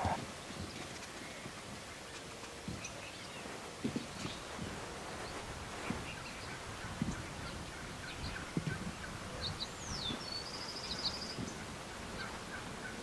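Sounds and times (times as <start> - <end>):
turkeys calling softly: 0.0 - 13.0.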